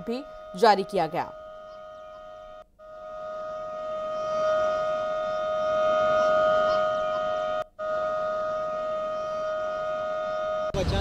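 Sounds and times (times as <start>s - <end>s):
warning siren: 0.0s - 10.9s.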